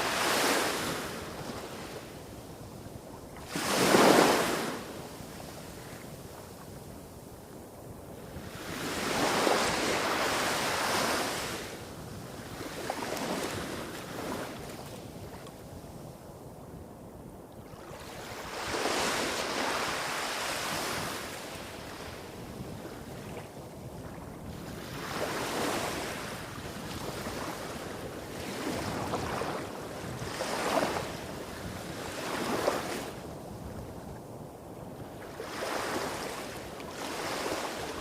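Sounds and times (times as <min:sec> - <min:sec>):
small waves washing up beach: 0:00.0 - 0:15.9, 0:17.6 - 0:38.0.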